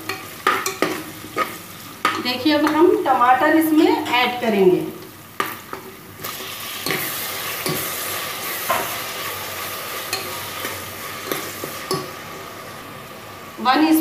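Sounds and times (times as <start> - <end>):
oil sizzling in pot: 0.0 - 14.0.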